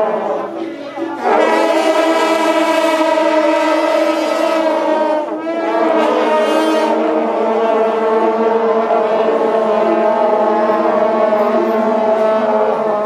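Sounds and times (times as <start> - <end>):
brass horns blowing: 0.0 - 13.0.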